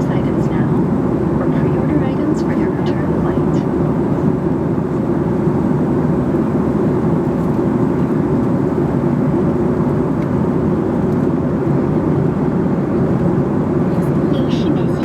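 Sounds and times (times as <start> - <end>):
airliner cabin engine rush: 0.0 - 15.0.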